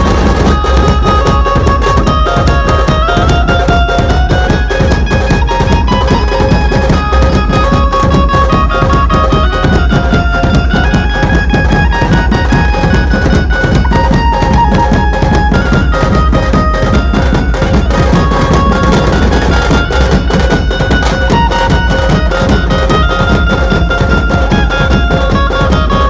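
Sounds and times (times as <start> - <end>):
barrel drums beating: 0.0 - 26.0
melodic lead line: 0.0 - 26.0.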